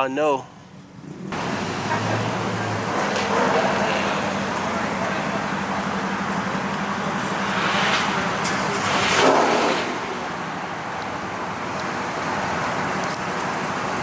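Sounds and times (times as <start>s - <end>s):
traffic engine hum: 0.3s - 14.0s
vehicle passing: 0.9s - 14.0s.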